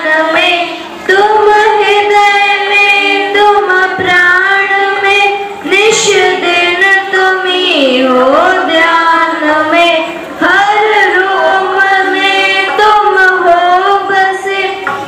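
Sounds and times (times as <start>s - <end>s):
girls singing in unison: 0.0s - 15.0s.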